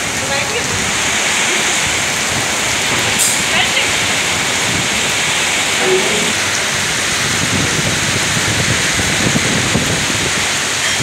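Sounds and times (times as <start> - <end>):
gusty wind: 0.0 - 11.0
heavy rain pouring: 0.0 - 11.0.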